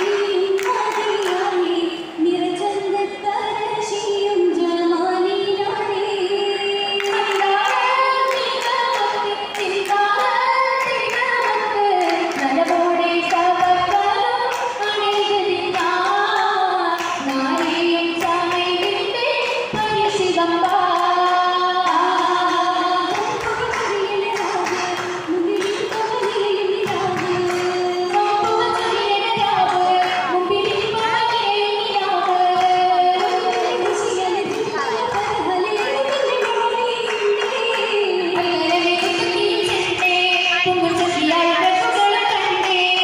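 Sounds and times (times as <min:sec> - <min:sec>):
rhythmic hand claps: 0:00.0 - 0:01.8, 0:07.0 - 0:43.0
women singing in chorus: 0:00.0 - 0:43.0.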